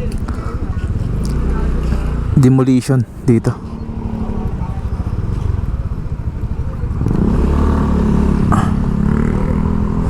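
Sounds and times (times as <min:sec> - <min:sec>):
small vehicle engine running: 0:00.0 - 0:10.0.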